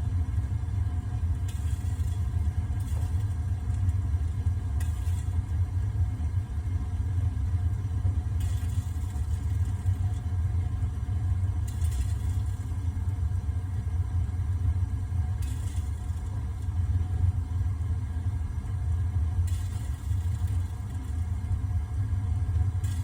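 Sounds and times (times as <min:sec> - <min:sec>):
gas flame rumbling: 0:00.0 - 0:23.0.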